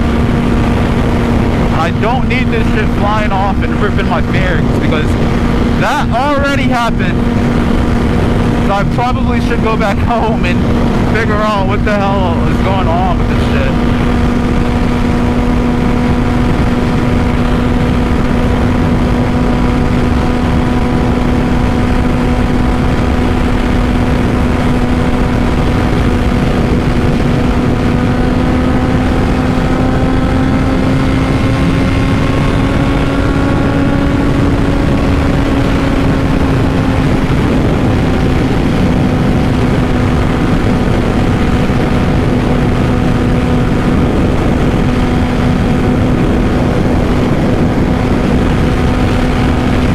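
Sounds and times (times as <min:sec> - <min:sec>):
motorcycle engine cruising: 0:00.0 - 0:49.9
wind noise: 0:00.0 - 0:49.9.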